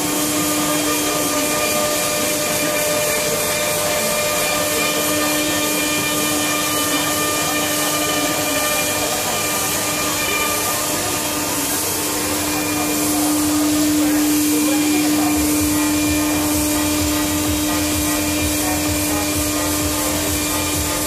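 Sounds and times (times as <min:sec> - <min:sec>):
cnc router spindle tone: 0:00.0 - 0:21.0
continuous rushing hiss: 0:00.0 - 0:21.0.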